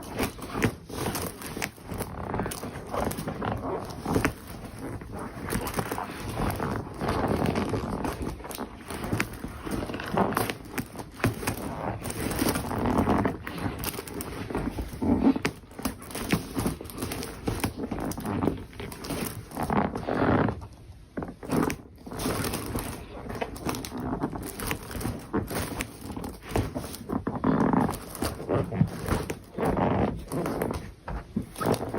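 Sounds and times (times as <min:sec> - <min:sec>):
rubber boots squeaking: 0:00.0 - 0:31.9.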